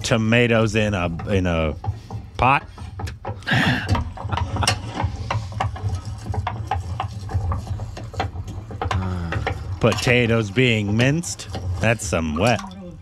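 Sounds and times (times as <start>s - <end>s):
potato masher clacking in metal pot: 0.0s - 13.0s.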